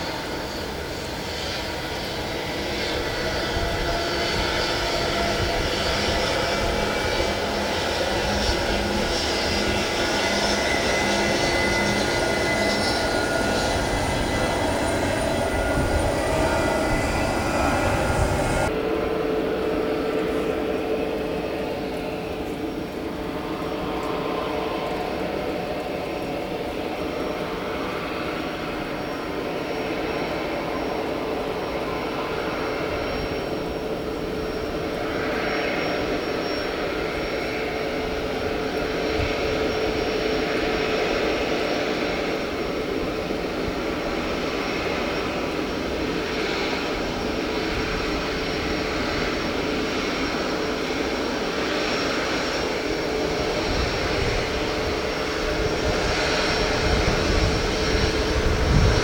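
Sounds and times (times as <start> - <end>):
airliner engines whining: 0.0 - 59.0.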